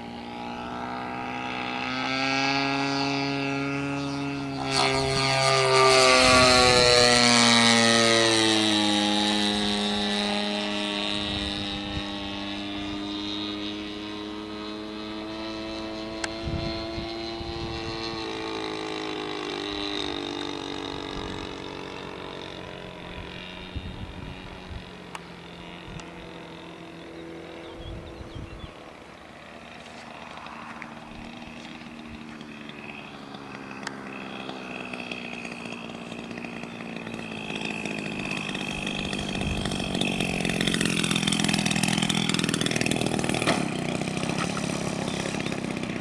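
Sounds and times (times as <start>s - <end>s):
model airplane engine and propeller: 0.0s - 46.0s.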